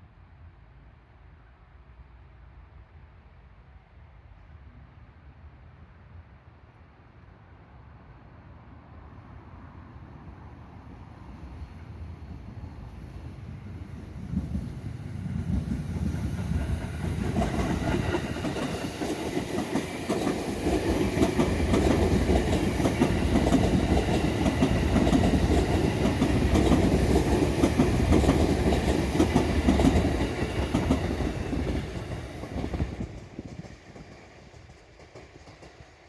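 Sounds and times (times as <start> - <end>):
train passing at speed: 0.0 - 36.0.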